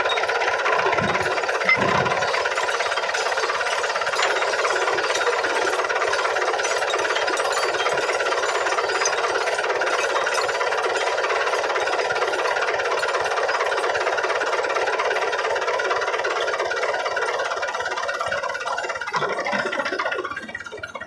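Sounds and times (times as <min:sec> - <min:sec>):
diesel tractor engine idling: 0:00.0 - 0:21.0.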